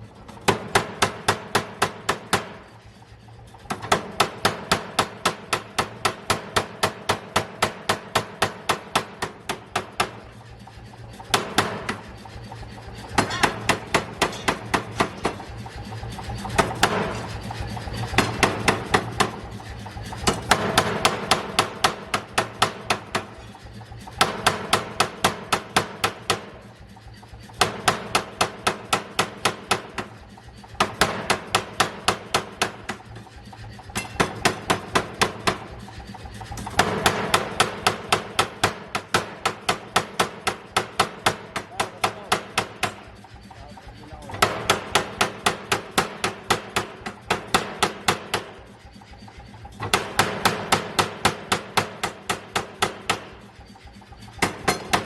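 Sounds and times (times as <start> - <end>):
air hammer striking: 0.3 - 2.8, 3.6 - 55.0.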